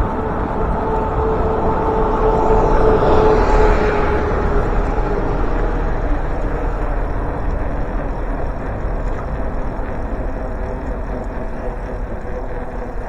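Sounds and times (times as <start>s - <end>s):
passing motor vehicle: 0.0s - 13.0s
wind and road noise: 0.0s - 13.0s.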